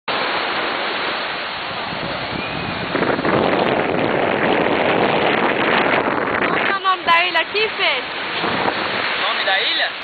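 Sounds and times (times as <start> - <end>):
surf breaking on beach: 0.1 - 10.0
wind buffeting microphone: 0.2 - 10.0.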